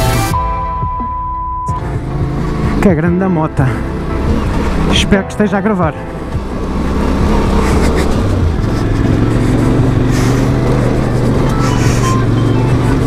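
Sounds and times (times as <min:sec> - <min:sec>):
motorcycle engine under load: 0:01.7 - 0:13.0.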